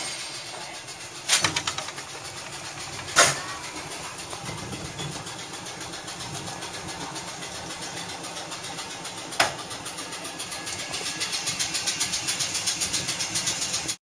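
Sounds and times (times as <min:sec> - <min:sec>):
air compressor chugging: 0:00.0 - 0:14.0.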